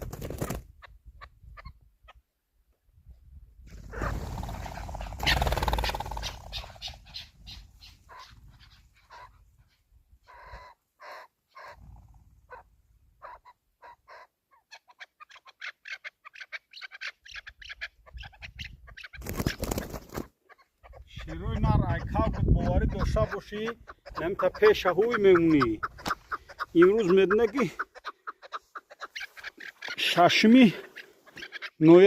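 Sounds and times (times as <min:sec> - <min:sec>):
partridge clucking calls: 0:03.9 - 0:32.0.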